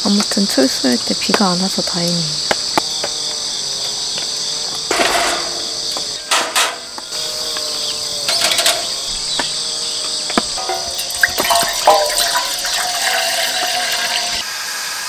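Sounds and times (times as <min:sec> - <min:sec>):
crickets and insects chirring: 0:00.0 - 0:15.0.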